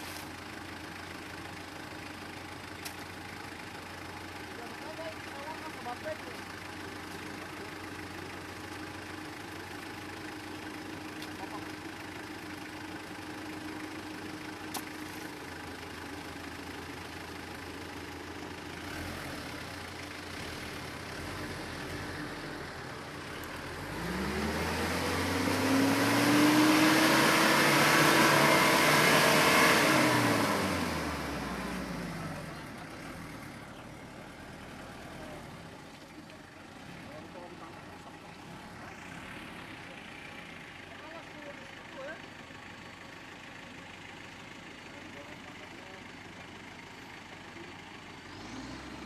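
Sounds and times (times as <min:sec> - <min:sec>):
pickup engine running and revving: 0:00.0 - 0:42.2, 0:43.0 - 0:49.0.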